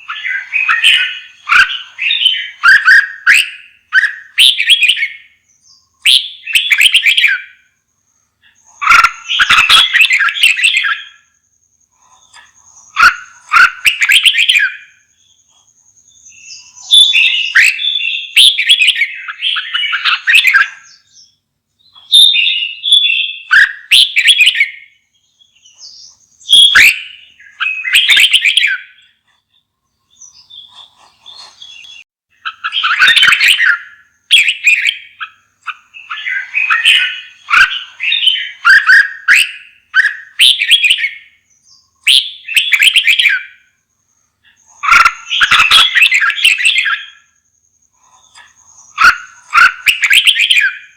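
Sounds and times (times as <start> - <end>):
bird singing whistled notes: 0.0 - 50.9.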